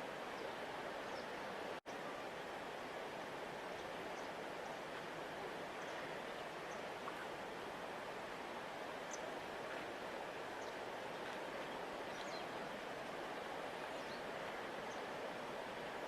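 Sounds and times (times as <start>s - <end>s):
large river rushing: 0.0s - 16.0s.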